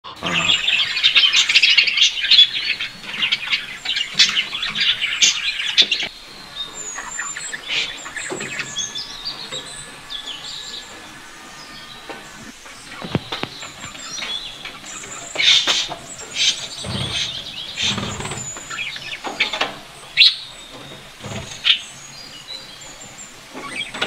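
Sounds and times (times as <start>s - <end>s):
budgerigars chattering: 0.1s - 24.0s.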